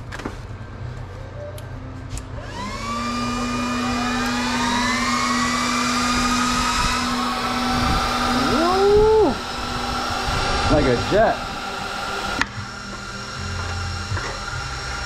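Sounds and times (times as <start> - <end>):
cooling fans whirring: 0.0 - 15.0.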